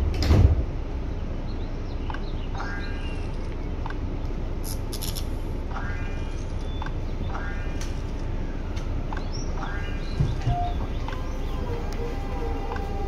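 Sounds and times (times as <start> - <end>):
electric train inverter whine: 0.0 - 13.0
train rumble: 0.0 - 13.0.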